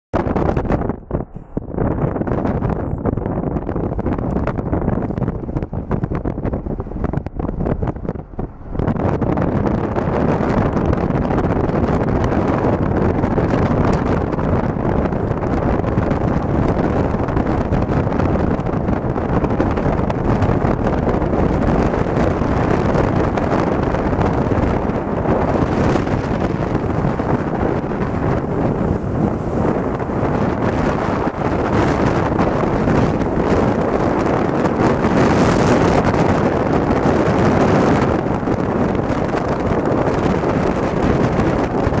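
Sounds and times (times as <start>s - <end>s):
wind buffeting microphone: 0.1s - 42.0s
road noise of moving car: 0.2s - 42.0s.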